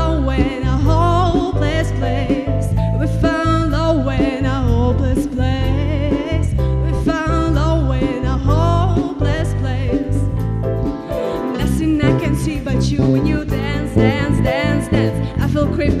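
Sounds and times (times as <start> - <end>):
person singing: 0.0 - 10.3, 11.0 - 16.0
pop band music: 0.0 - 16.0.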